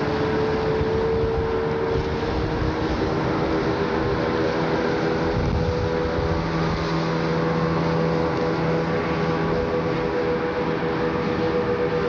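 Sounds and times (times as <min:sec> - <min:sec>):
steady rushing noise: 0:00.0 - 0:12.0
tugboat diesel engine droning: 0:00.0 - 0:12.0.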